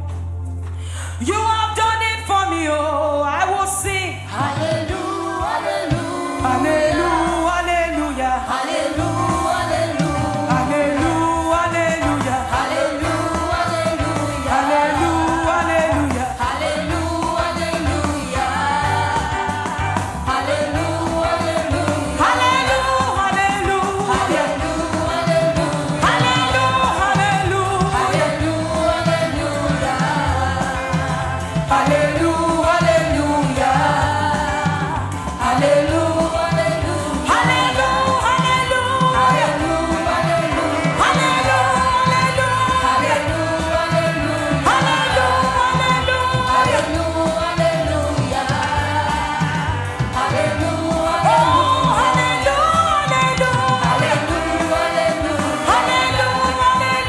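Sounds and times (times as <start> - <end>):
voices singing gospel: 1.0 - 57.0
live band with steady beat: 3.8 - 57.0.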